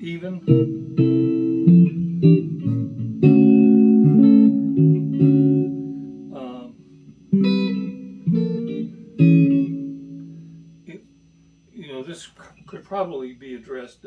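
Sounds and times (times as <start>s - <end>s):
clean electric guitar chords: 0.0s - 11.8s.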